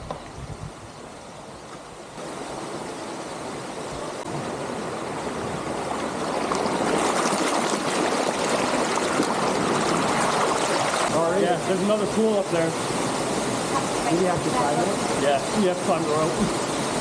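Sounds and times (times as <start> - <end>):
rushing stream water: 1.0 - 17.0.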